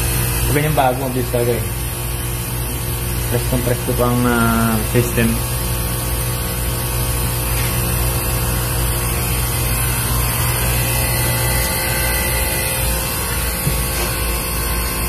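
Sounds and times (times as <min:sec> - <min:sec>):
ice machine humming: 0:00.0 - 0:15.0.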